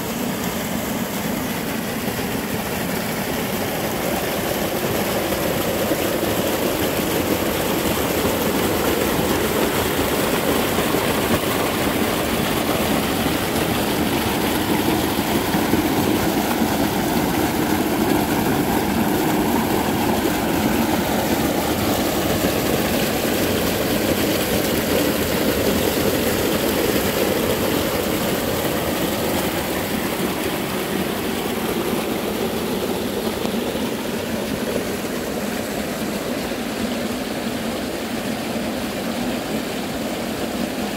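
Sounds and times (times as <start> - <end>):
creek rushing over rocks: 0.0 - 40.9.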